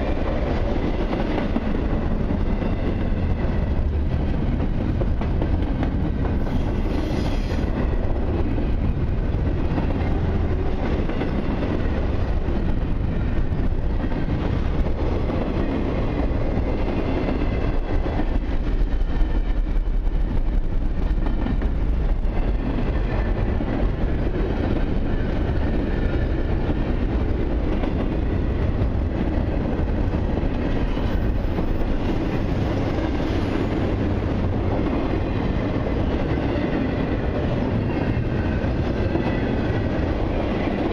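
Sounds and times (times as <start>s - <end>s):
freight train wheels rumbling on rails: 0.0s - 40.9s.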